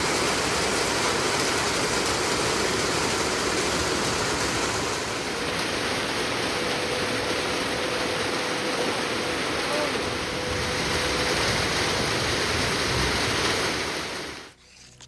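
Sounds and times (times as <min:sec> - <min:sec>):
steady rain falling: 0:00.0 - 0:14.6.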